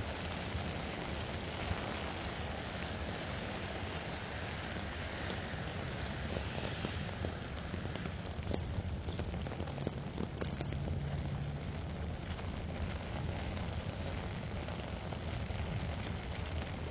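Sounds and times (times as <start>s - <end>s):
heavy rain on an umbrella: 0.0s - 16.9s
passing traffic hum: 0.0s - 16.9s.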